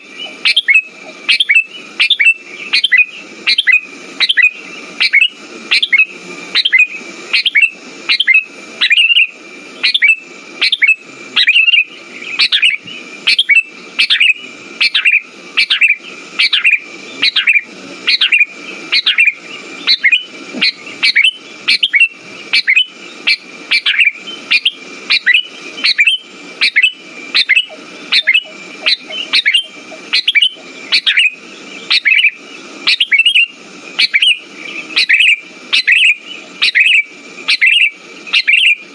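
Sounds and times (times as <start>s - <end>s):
bulbul calling sharp notes: 0.0s - 38.9s.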